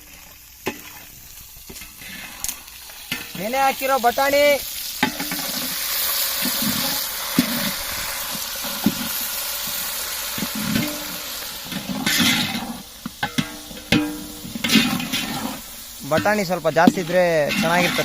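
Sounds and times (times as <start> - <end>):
hot oil sizzling in pot: 0.0 - 18.0.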